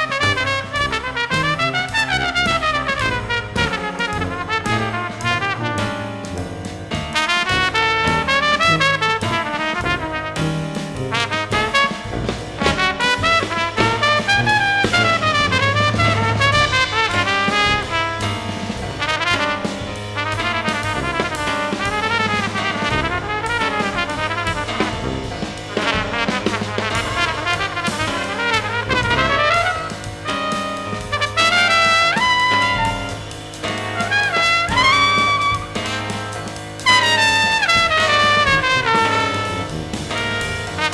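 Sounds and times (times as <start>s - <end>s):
bass: 0.0s - 40.9s
drums: 0.0s - 40.9s
trumpet: 0.0s - 40.9s.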